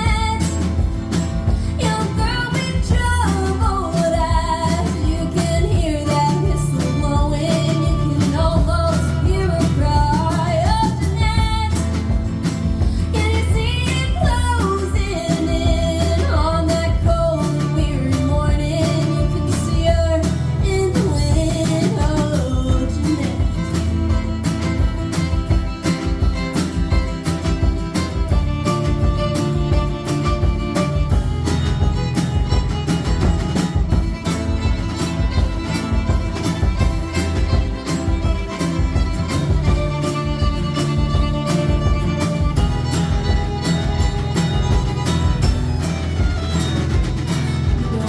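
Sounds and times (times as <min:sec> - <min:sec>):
band playing country-rock: 0:00.0 - 0:48.0.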